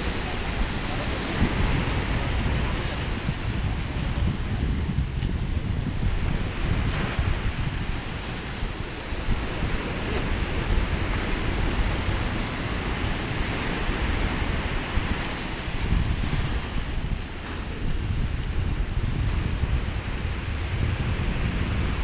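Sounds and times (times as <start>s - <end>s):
surf breaking over rocks: 0.0s - 22.0s
wind buffeting microphone: 0.0s - 22.0s.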